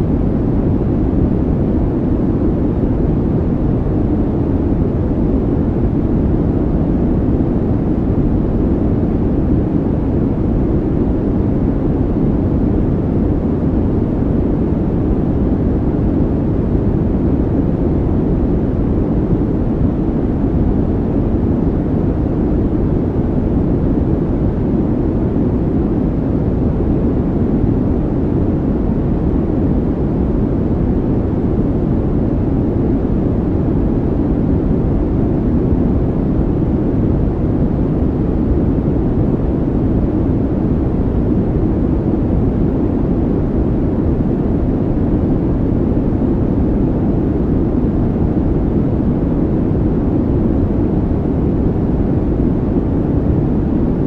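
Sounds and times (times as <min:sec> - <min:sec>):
low rumbling noise: 0:00.0 - 0:54.0.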